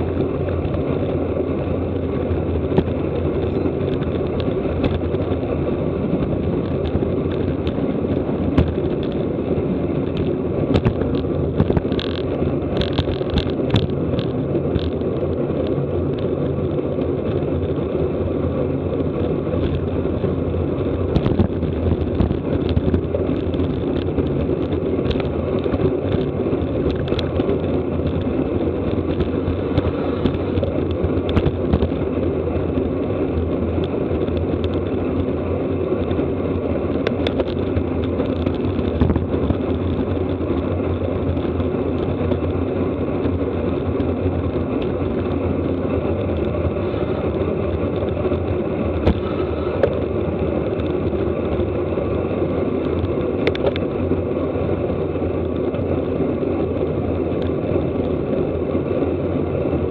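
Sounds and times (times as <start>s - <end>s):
bicycle road noise: 0.0s - 59.9s
wind rush: 0.0s - 59.9s.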